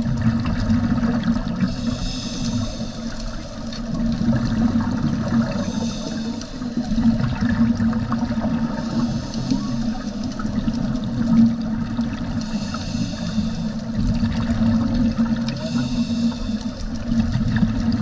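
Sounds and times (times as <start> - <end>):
faint crackling clicks: 0.0 - 18.0
muffled underwater wash: 0.0 - 18.0.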